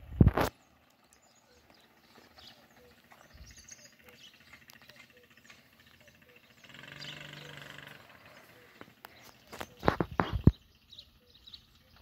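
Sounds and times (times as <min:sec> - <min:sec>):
faint birds chirping: 0:00.5 - 0:12.0.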